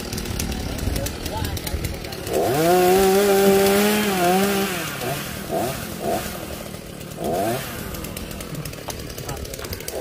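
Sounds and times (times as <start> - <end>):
chainsaw revving and idling: 0.0 - 10.0.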